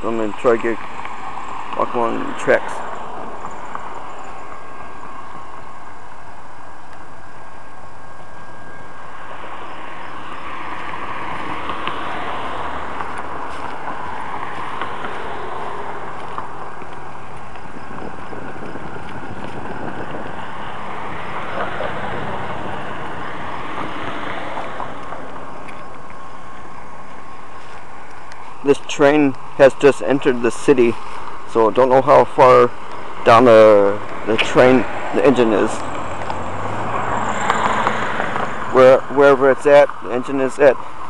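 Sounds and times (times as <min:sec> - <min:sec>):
road vehicles passing: 0:00.0 - 0:41.0
steady outdoor noise: 0:00.0 - 0:41.0.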